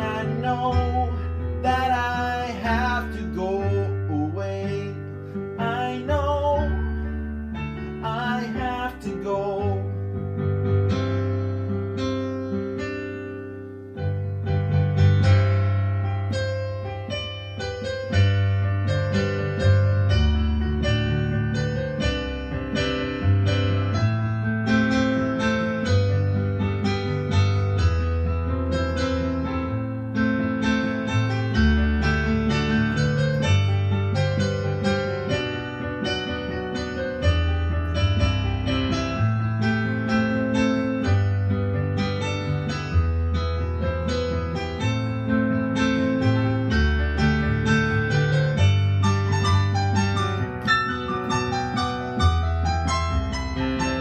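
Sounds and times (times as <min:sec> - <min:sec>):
solo piano playing chords: 0:00.0 - 0:54.0.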